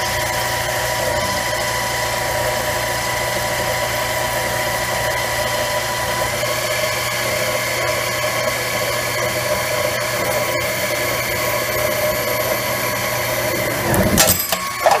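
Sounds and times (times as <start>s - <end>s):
lathe motor whine: 0.0s - 15.0s.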